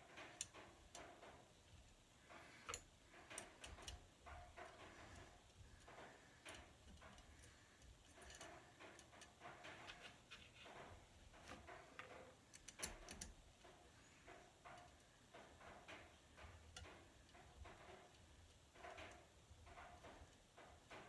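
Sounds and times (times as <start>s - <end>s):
small parts and tools clicking: 0.1s - 21.0s.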